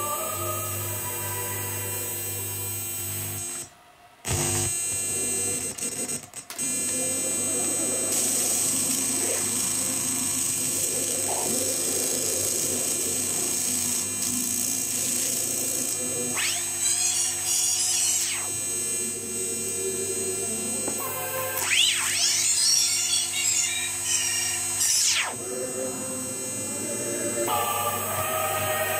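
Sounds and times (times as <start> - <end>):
harsh electronic drone: 0.0 - 3.7, 4.3 - 28.9.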